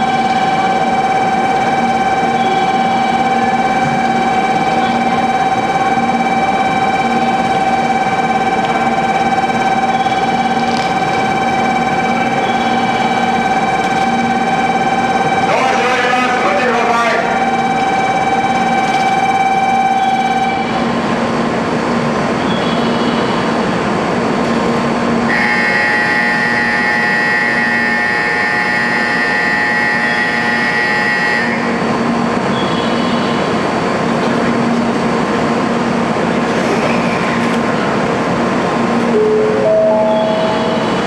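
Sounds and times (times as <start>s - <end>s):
high steady whine: 0.0s - 41.0s
train wheels and motors rumbling: 0.0s - 41.0s.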